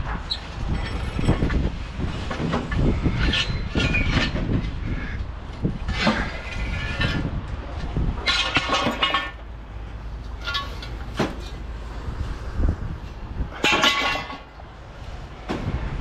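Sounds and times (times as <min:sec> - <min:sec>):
low vehicle rumble: 0:00.0 - 0:16.0
scrap metal clanking: 0:00.1 - 0:05.0, 0:05.6 - 0:09.5, 0:10.3 - 0:12.3, 0:13.4 - 0:15.8.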